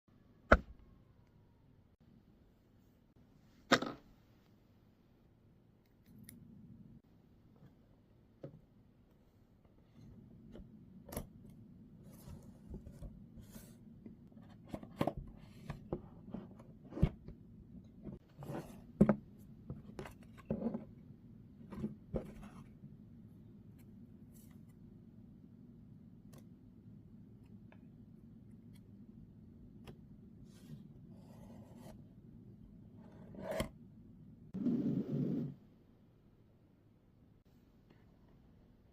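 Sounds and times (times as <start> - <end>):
faint steady hum: 0.1 - 38.9.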